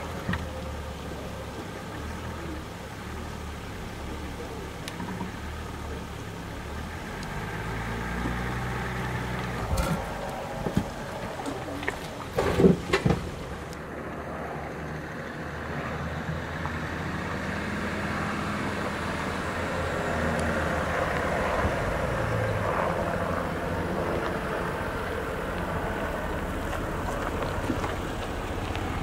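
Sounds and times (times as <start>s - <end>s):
diesel engine running low: 0.0s - 29.0s.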